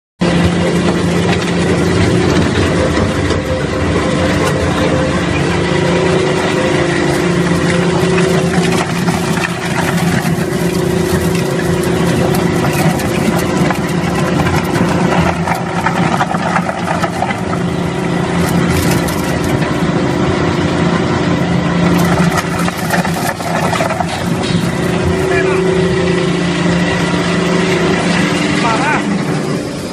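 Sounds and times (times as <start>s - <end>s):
crackle and rattle of wood chips: 0.2s - 29.9s
wood grinding machinery motor hum: 0.2s - 29.9s.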